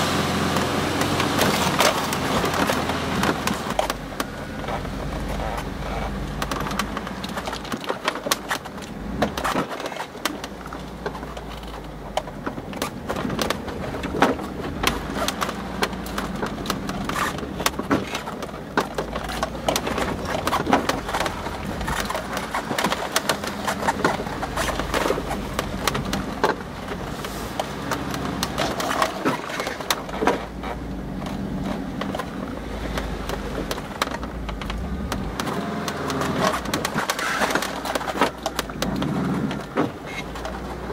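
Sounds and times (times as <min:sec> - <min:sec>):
rattling and knocking: 0:00.0 - 0:40.9
vehicle engine rumbling: 0:00.0 - 0:40.9.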